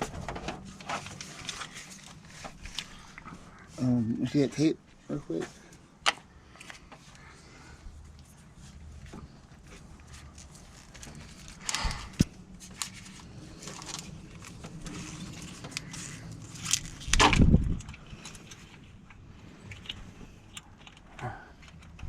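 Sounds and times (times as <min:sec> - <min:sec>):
rustling of wiring harness: 0:00.0 - 0:22.0.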